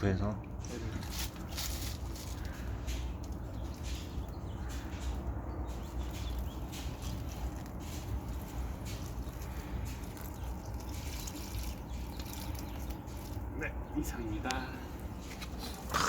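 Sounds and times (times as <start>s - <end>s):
low background rumble: 0.4s - 16.0s.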